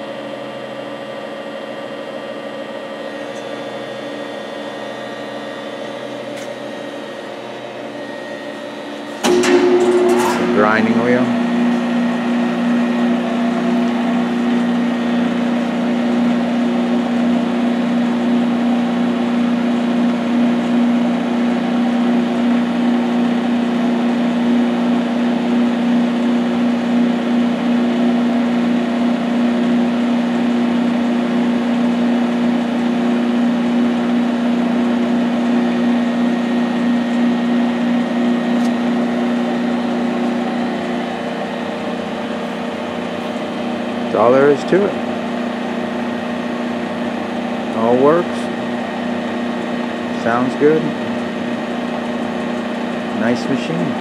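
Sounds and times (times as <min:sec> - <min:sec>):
grinder machine hum: 0:00.0 - 0:54.0.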